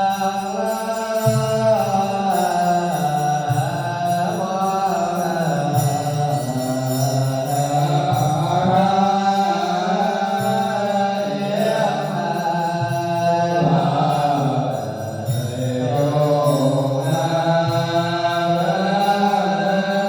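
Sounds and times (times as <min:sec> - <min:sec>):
voices chanting in long tones: 0:00.0 - 0:20.0.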